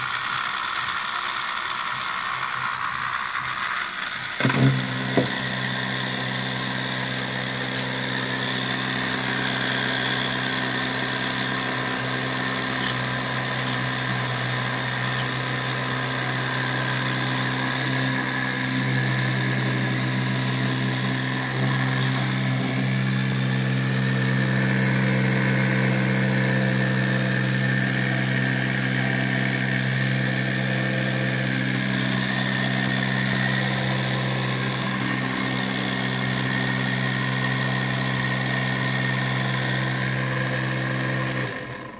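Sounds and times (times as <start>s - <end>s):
electric motor humming and whirring: 0.0s - 41.9s.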